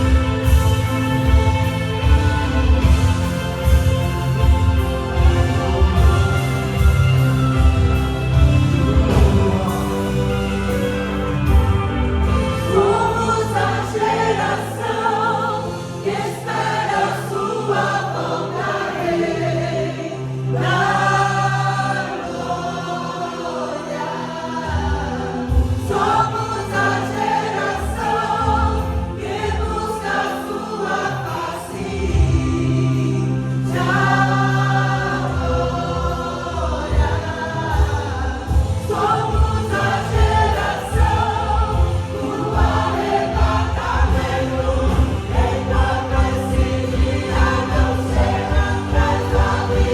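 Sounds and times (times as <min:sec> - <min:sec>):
band with bass and drums: 0:00.0 - 0:16.8, 0:24.6 - 0:30.1, 0:31.0 - 0:49.9
choir singing worship song: 0:00.0 - 0:49.9.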